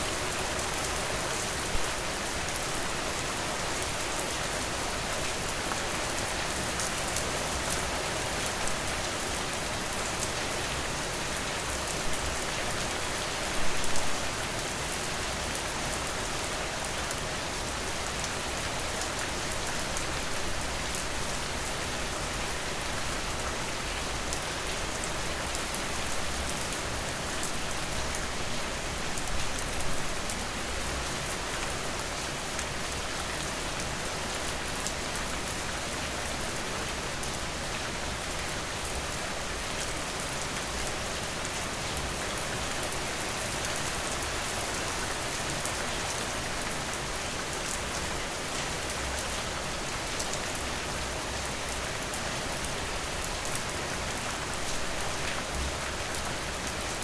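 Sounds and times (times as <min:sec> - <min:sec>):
rain falling on a porch: 0:00.0 - 0:57.0.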